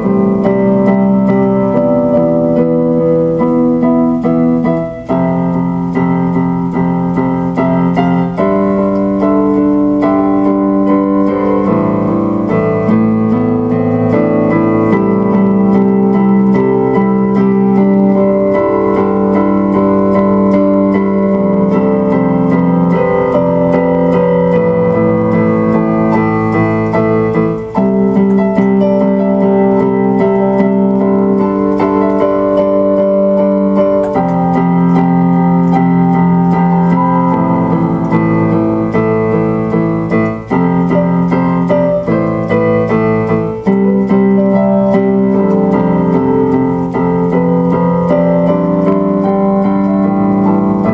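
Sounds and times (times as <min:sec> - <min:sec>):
electric piano chords: 0:00.0 - 0:50.9.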